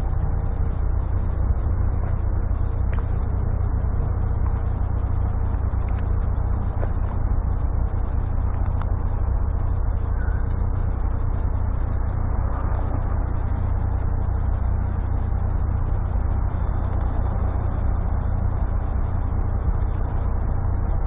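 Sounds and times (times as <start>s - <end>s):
low rumbling noise: 0.0s - 21.0s.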